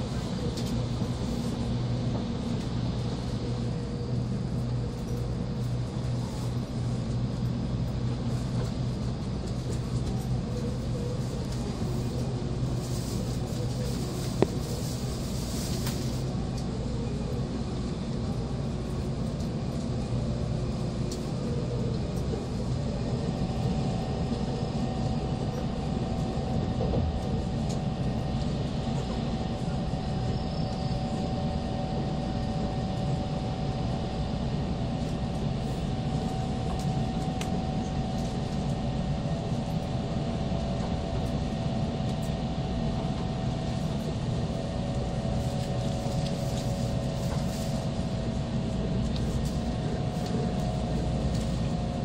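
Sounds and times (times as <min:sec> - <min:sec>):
train cabin rumble: 0:00.0 - 0:52.0.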